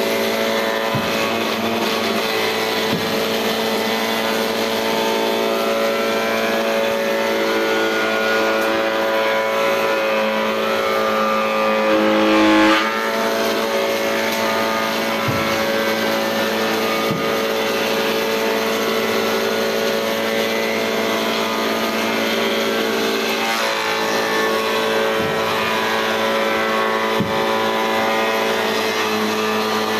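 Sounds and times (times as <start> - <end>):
planer motor and cutterhead whine: 0.0 - 29.9.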